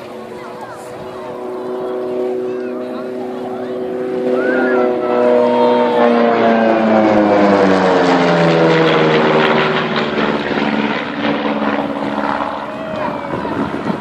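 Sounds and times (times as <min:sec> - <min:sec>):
propeller aircraft passing: 0:00.0 - 0:14.0.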